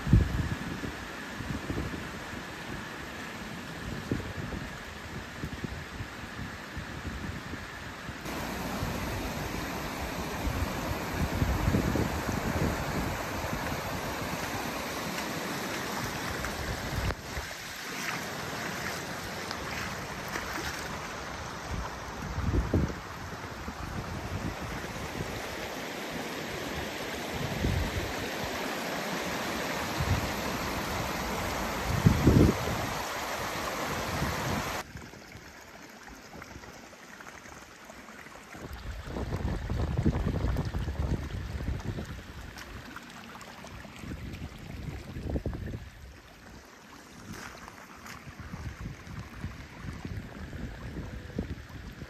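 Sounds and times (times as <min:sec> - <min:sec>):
floodwater rushing: 0:08.2 - 0:52.0
water running across a road: 0:08.2 - 0:52.0.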